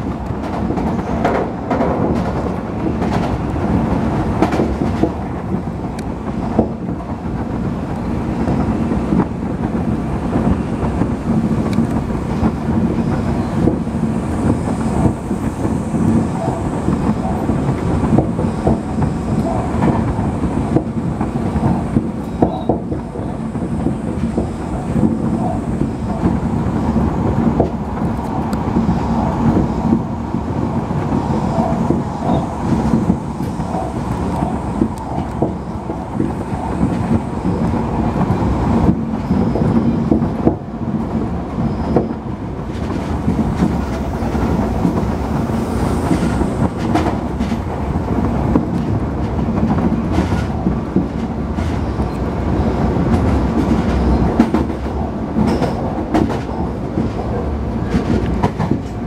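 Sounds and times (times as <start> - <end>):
train wheels rumbling on rails: 0.0 - 59.0
wheels clacking over rail joints: 0.0 - 59.0.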